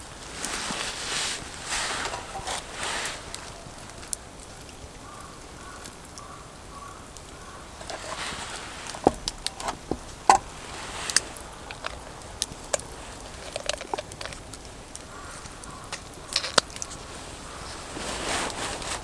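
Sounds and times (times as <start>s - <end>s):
campfire crackling and popping: 0.0s - 19.0s
soft steady hiss: 0.0s - 19.0s.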